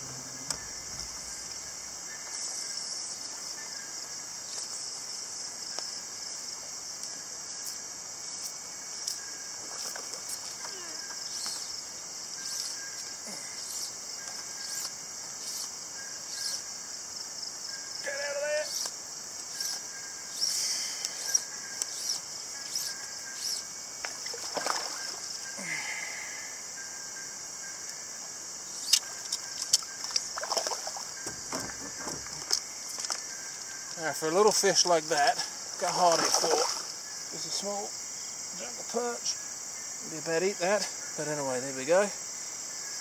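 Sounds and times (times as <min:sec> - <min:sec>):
jungle insects droning: 0:00.0 - 0:43.0.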